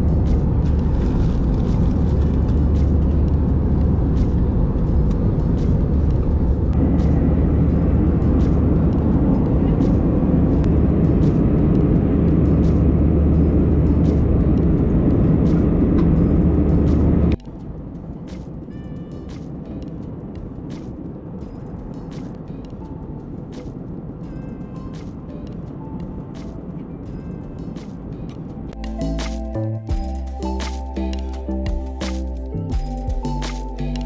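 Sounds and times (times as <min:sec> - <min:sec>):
aircraft cabin engine rumble: 0:00.0 - 0:29.2.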